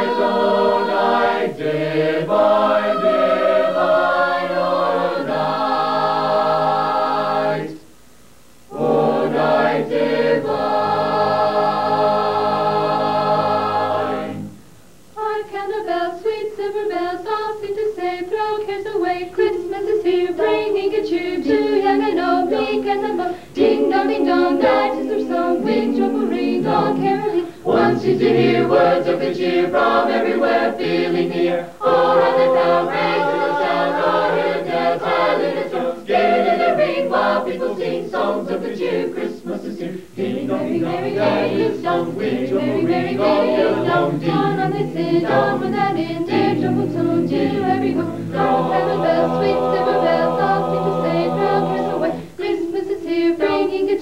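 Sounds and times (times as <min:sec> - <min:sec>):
a cappella choir singing: 0:00.0 - 0:07.9, 0:08.7 - 0:14.6, 0:15.2 - 0:54.0.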